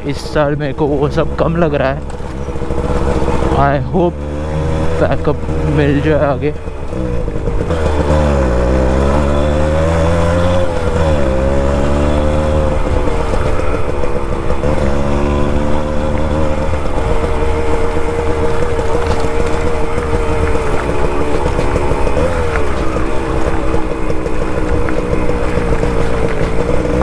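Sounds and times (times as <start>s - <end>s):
two-stroke motorcycle engine: 0.0s - 27.0s.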